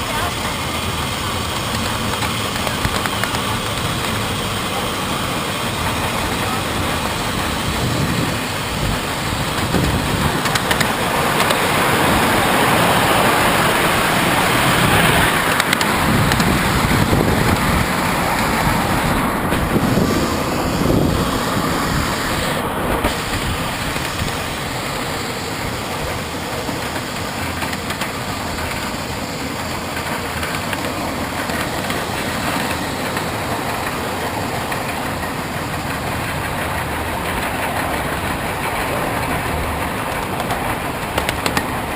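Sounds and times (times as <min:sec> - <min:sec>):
steam train wheels rumbling: 0:00.0 - 0:41.9.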